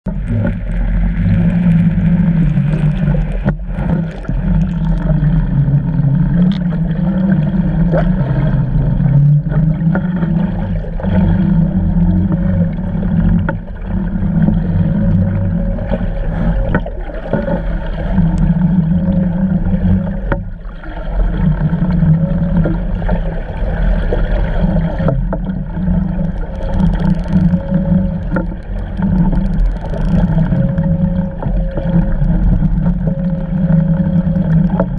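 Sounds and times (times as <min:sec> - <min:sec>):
muffled underwater engine drone: 0:00.0 - 0:34.9.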